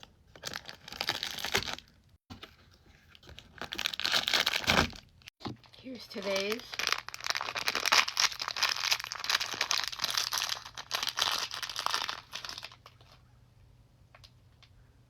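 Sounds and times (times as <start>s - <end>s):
wrapping crinkling and rustling: 0.0s - 13.2s.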